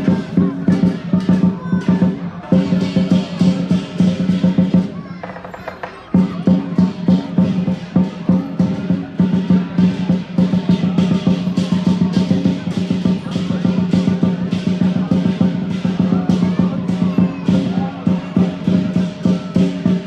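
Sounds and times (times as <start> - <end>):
cymbals clashing: 0.0 - 20.0
large drum beating: 0.0 - 20.0.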